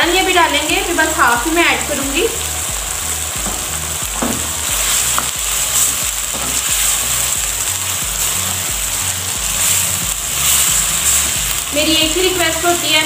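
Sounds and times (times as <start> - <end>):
chicken sizzling in gravy: 0.0 - 13.0.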